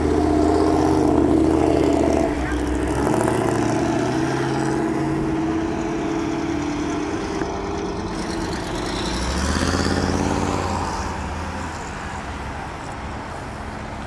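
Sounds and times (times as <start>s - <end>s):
pickup truck engine passing: 0.0s - 12.9s.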